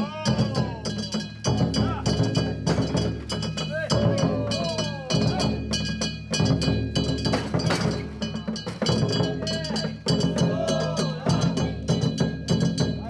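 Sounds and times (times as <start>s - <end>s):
fast dense percussion: 0.0s - 13.0s.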